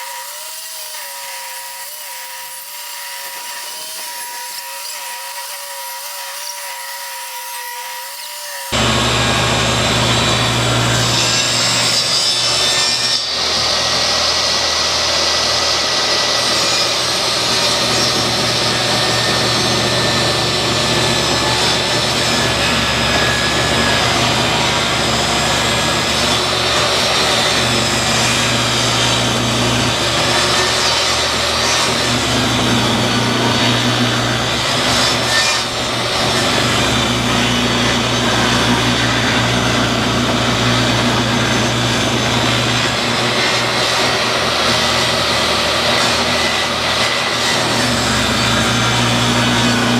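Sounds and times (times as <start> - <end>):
table saw cutting wood: 0.0 - 49.9.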